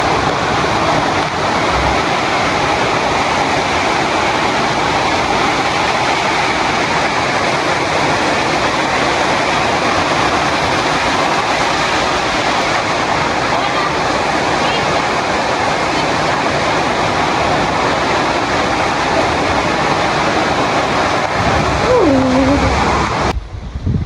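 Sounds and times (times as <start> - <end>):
heavy rain pouring: 0.0 - 23.4.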